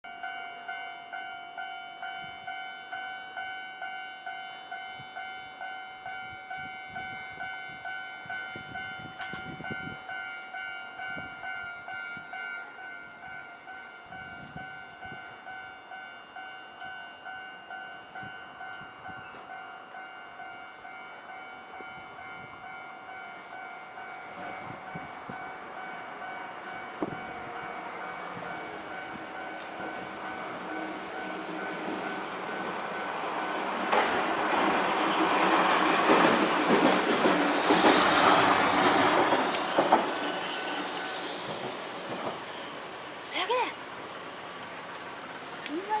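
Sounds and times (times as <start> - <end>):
level crossing warning bell: 0.0 - 34.4, 38.4 - 41.9.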